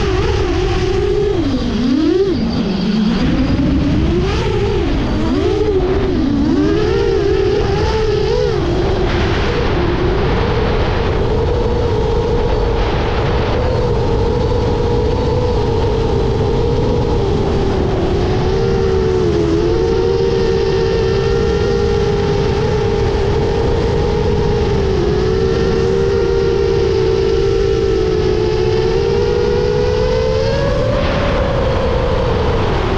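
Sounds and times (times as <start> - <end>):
quadcopter motors whining: 0.0 - 32.9.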